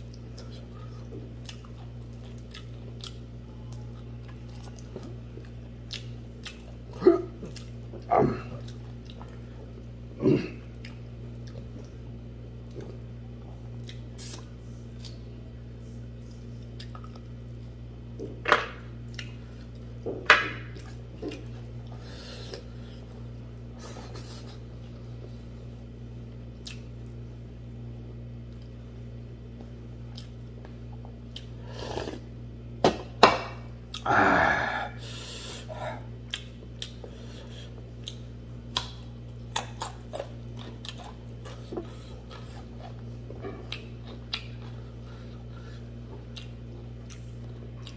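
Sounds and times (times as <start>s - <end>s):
person chewing: 0.0s - 17.8s, 19.0s - 20.0s, 20.7s - 25.3s, 26.5s - 27.2s, 29.5s - 32.4s, 33.8s - 47.9s
steady low hum: 0.0s - 47.9s.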